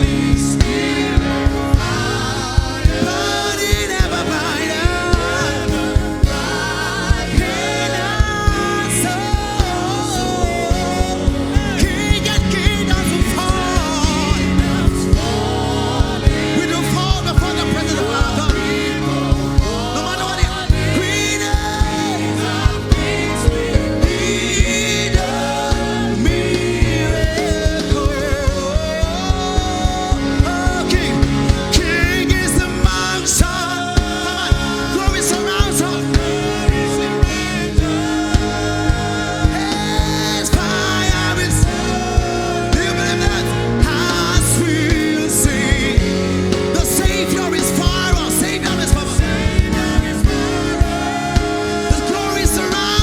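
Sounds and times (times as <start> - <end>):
band with steady drum beat: 0.0 - 53.0
sustained keyboard chords: 0.0 - 53.0
voices singing long notes: 0.0 - 53.0.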